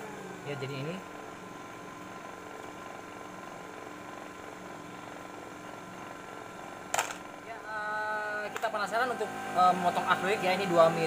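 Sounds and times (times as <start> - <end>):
table saw motor humming: 0.0 - 11.0.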